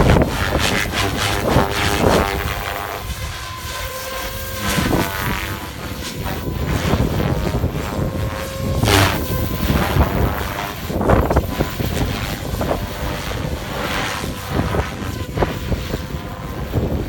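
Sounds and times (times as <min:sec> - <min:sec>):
rc helicopter motor whine: 0:00.0 - 0:17.0
wind buffeting microphone: 0:00.0 - 0:17.0.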